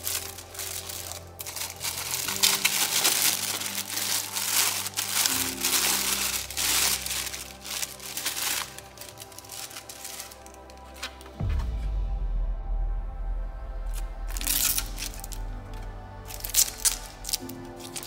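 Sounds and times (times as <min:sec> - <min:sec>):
plastic bag crinkling: 0:00.0 - 0:11.4, 0:14.3 - 0:18.0.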